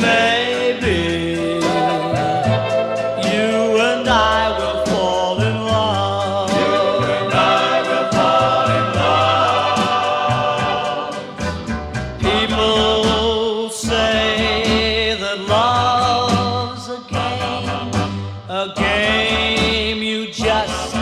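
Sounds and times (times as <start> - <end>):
choir-like backing vocals: 0.0 - 21.0
soft pop song with band: 0.0 - 21.0.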